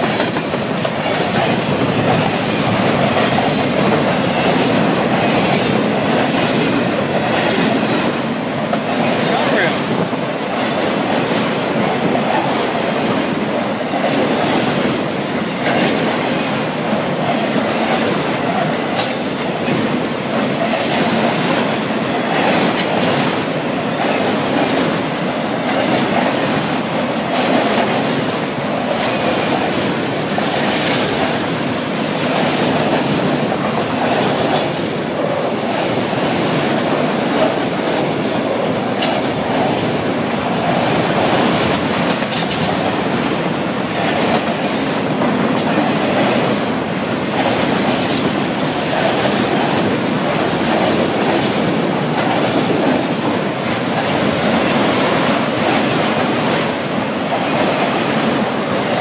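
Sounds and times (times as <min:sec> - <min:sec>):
sharp clicks of train wheels: 0:00.0 - 0:59.0
train wheels rumbling on rail: 0:00.0 - 0:59.0.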